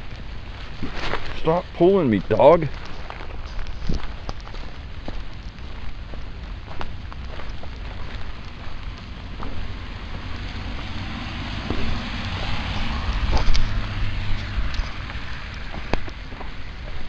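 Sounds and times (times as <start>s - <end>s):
steady pouring rain: 0.0s - 17.0s
wind rumble on microphone: 0.0s - 17.0s.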